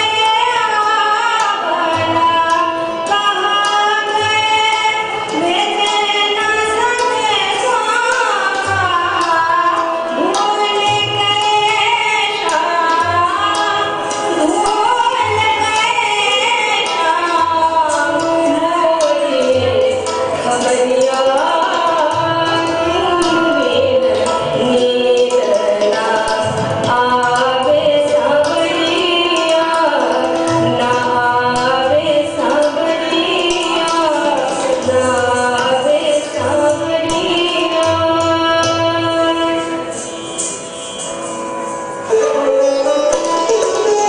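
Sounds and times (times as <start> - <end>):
instrumental accompaniment: 0.0 - 44.0
percussion beat: 0.0 - 44.0.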